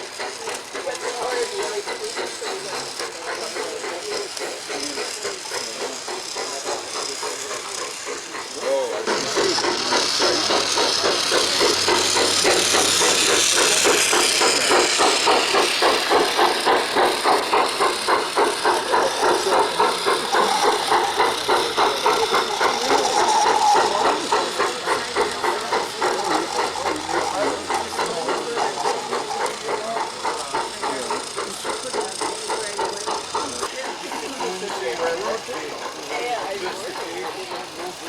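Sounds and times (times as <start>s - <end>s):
model steam locomotive chuffing: 0.0s - 38.0s
steam hiss: 0.0s - 38.0s.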